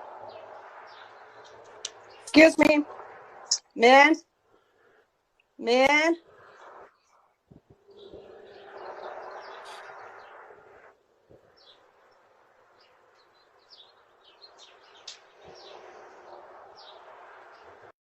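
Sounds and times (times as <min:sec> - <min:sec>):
faint rushing noise: 0:00.0 - 0:18.0
small birds chirping: 0:00.3 - 0:03.9, 0:04.5 - 0:17.9.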